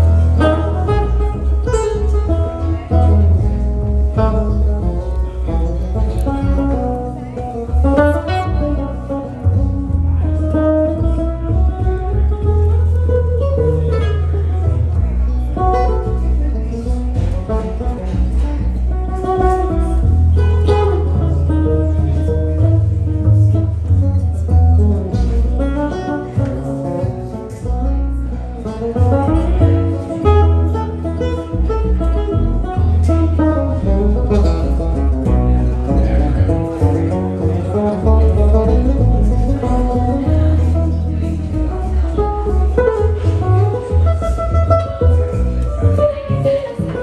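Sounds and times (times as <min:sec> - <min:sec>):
acoustic guitar: 0:00.0 - 0:47.0
plucked double bass: 0:00.0 - 0:47.0.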